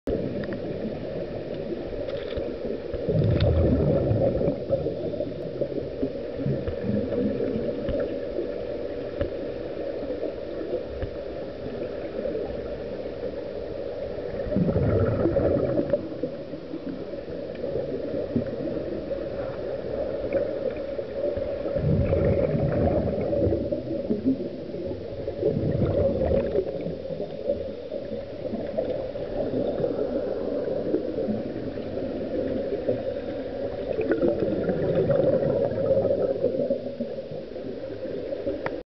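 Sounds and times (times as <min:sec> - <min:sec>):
rush of bubbling: 0:00.1 - 0:11.0, 0:14.0 - 0:38.8
steady low underwater hum: 0:00.1 - 0:38.8.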